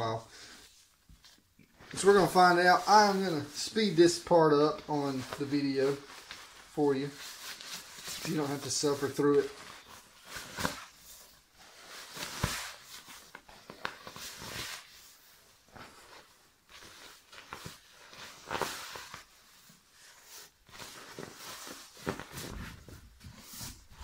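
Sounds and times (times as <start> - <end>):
sleeping bag nylon rustling: 0.0 - 24.0.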